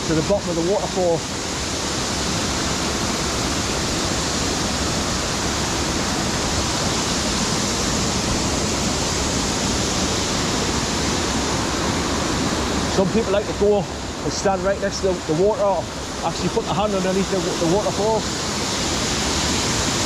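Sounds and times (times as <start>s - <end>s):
waterfall pouring: 0.0s - 20.0s.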